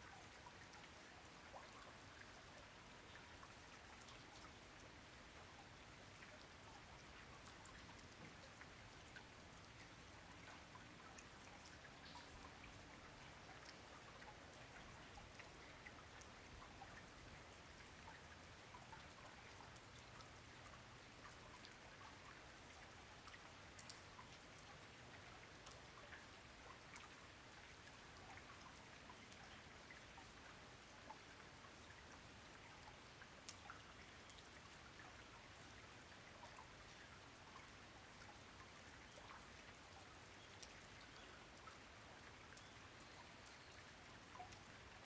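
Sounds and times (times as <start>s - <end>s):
faint steady rain: 0.0s - 45.0s.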